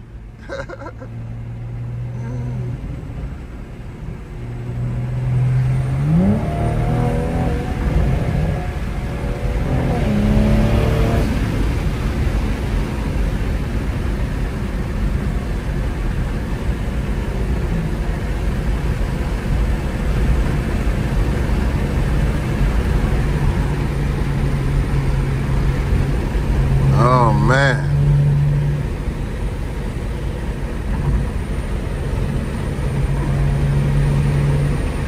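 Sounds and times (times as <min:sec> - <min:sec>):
car engine running: 0:00.0 - 0:35.0
road and tyre noise: 0:00.0 - 0:35.0.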